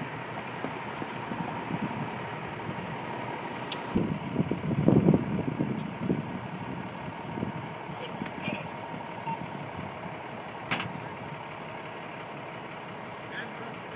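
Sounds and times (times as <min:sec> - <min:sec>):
vehicles idling: 0:00.0 - 0:13.9.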